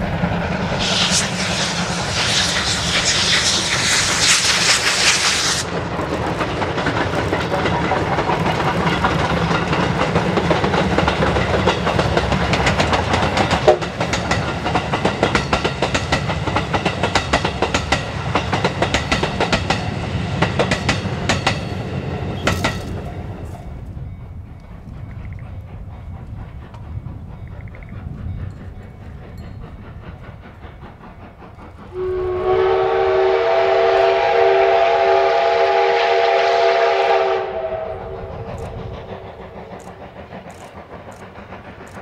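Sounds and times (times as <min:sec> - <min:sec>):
steam hissing: 0:00.0 - 0:23.4, 0:24.7 - 0:42.0
train wheels clattering over rail joints: 0:00.0 - 0:34.3, 0:37.6 - 0:42.0.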